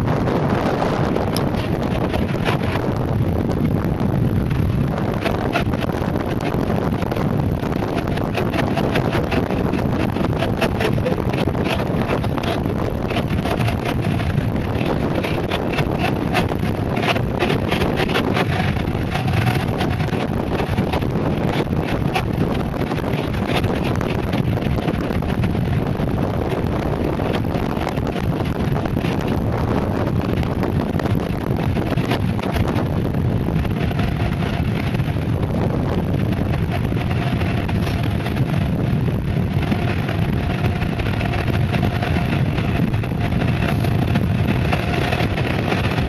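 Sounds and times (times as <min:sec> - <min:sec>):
tyres rolling fast on asphalt: 0:00.0 - 0:46.0
wind buffeting microphone: 0:00.0 - 0:46.0
small clicks and rattles: 0:04.5 - 0:46.0.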